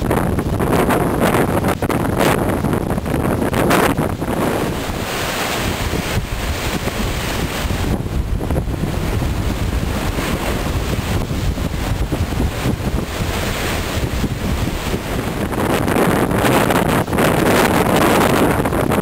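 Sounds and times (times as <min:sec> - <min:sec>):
rough surf washing ashore: 0:00.0 - 0:19.0
storm wind buffeting microphone: 0:00.0 - 0:19.0.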